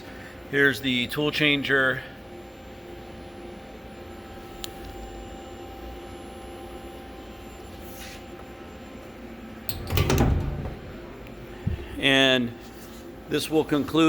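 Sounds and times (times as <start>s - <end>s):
machining center humming: 0.0s - 14.0s.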